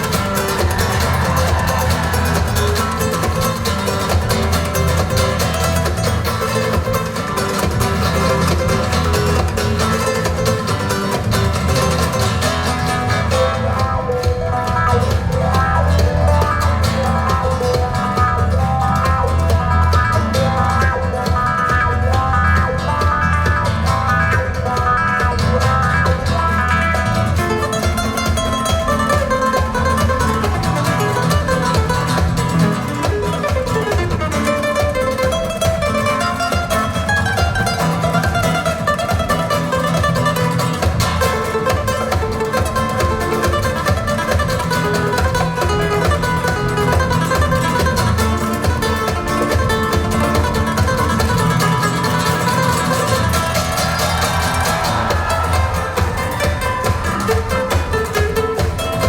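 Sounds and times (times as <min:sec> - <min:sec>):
guitar music with bass line: 0:00.0 - 0:59.0.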